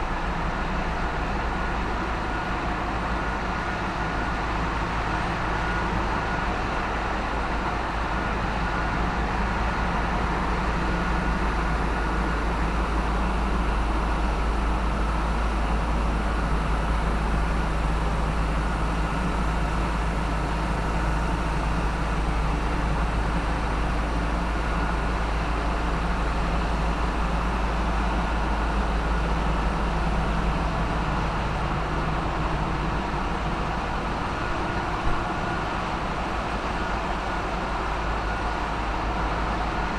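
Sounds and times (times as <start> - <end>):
ship engine room machinery: 0.0 - 39.9.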